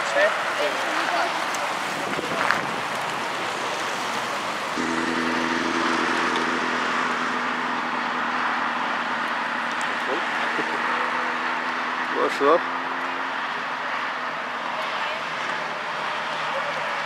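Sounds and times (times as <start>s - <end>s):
outdoor noise: 0.0s - 17.0s.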